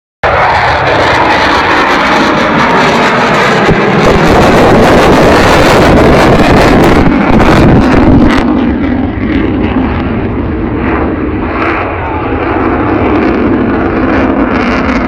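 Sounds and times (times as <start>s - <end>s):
jet engine noise: 0.2s - 15.0s.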